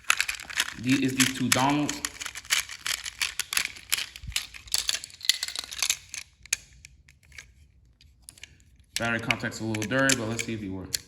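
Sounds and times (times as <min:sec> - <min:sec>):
plastic toy trains clicking and rattling: 0:00.0 - 0:11.0.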